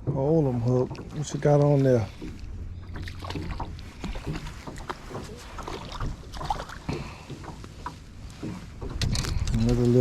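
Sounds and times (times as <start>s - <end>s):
water lapping against hull: 0.0s - 10.0s
small splashes: 0.7s - 8.9s.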